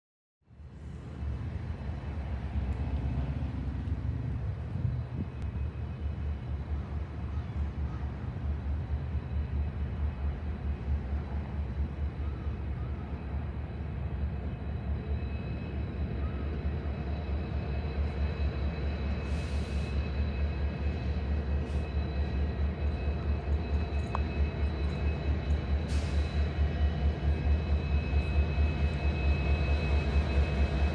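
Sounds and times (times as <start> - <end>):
diesel locomotives rumbling: 0.5 - 30.9.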